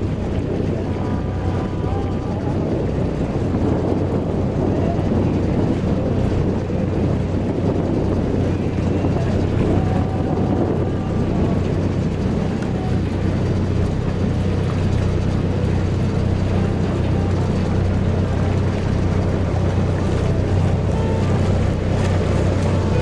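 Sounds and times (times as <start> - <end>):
boat engine humming: 0.0 - 23.0
steady rushing noise: 0.0 - 23.0.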